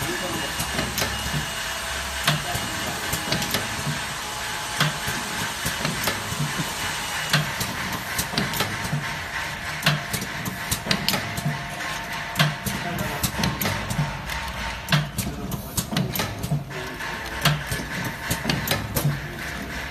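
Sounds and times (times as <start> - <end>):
packing machine clacking: 0.0 - 19.9.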